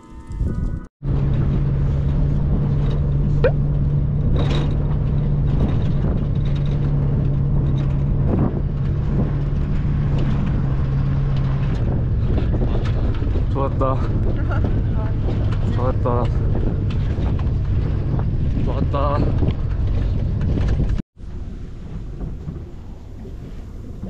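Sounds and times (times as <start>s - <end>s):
motorboat engine drone: 0.0s - 24.0s.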